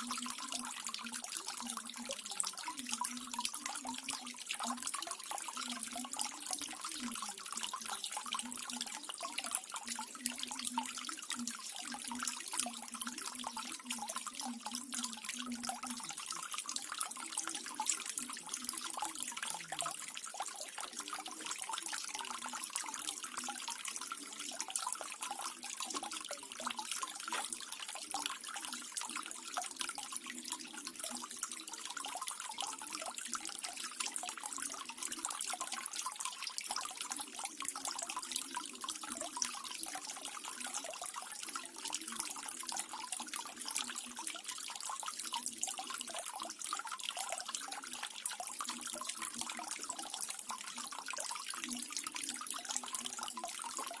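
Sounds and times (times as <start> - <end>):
waterfall trickling and splashing: 0.0 - 54.0.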